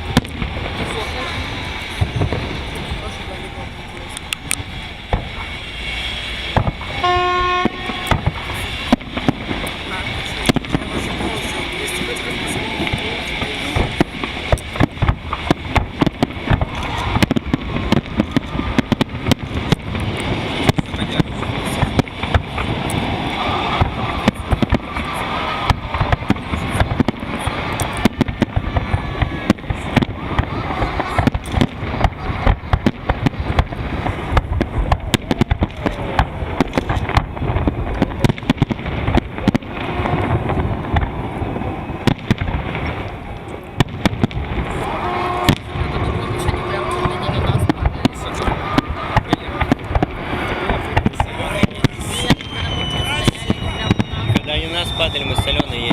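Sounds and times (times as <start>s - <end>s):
crowd voices: 0.0s - 55.9s
fireworks bangs: 0.0s - 55.9s.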